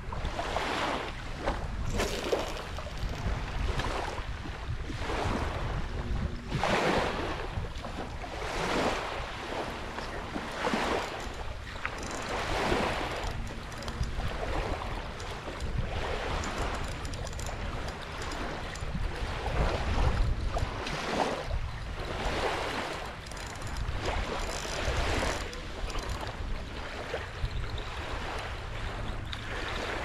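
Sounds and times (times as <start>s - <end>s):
small waves lapping shore: 0.0s - 30.0s
wind on microphone: 0.0s - 30.0s.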